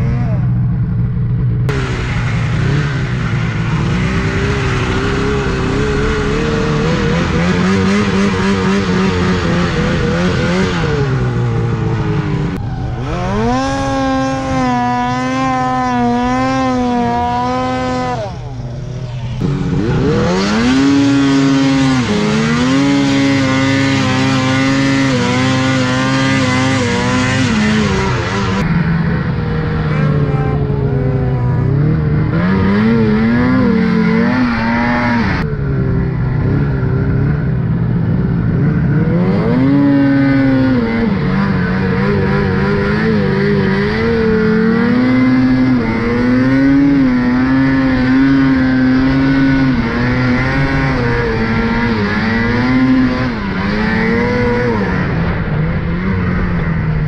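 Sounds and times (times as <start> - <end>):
snowmobile engine revving: 1.7 - 57.0.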